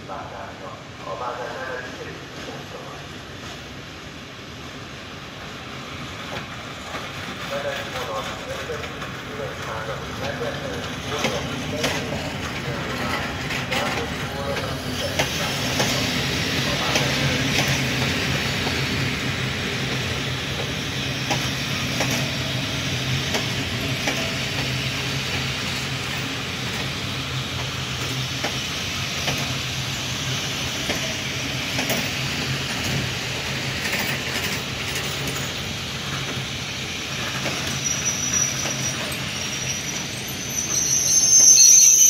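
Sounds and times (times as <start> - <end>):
passenger coaches rolling past: 0.0 - 42.0.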